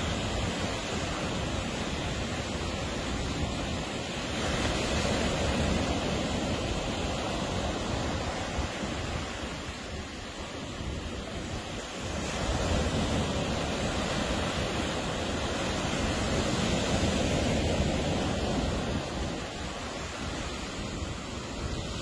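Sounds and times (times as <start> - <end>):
ocean surf washing onto beach: 0.0 - 22.0.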